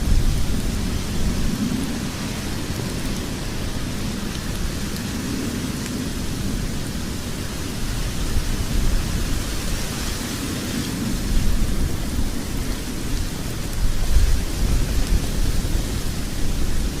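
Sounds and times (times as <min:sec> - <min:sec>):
faint fire crackles: 0:00.0 - 0:17.0
fire rumbling and hissing: 0:00.0 - 0:17.0.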